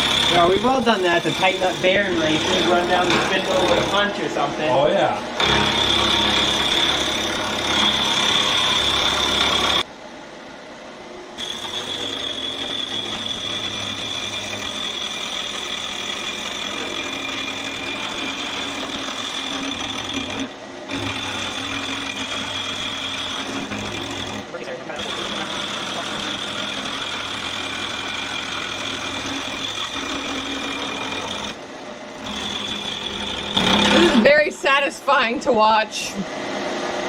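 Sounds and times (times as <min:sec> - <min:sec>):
machine tool cutting metal: 0:00.0 - 0:04.8, 0:05.4 - 0:09.8, 0:11.4 - 0:31.6, 0:32.2 - 0:34.4.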